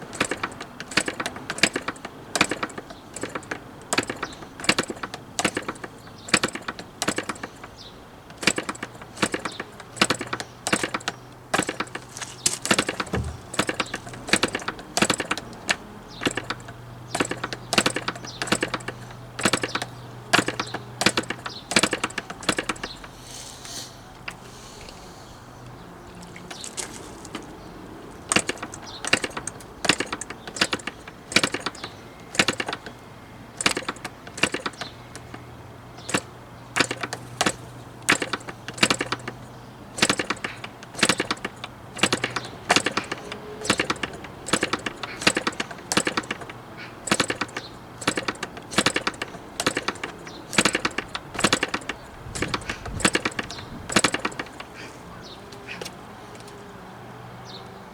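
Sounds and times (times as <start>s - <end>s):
sharp clicks and clatters: 0.0s - 25.0s, 25.6s - 56.6s.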